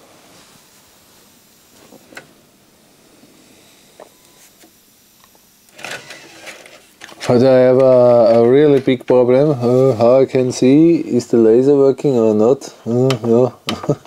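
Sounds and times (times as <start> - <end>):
minidisc deck whirring: 0.6 - 14.0.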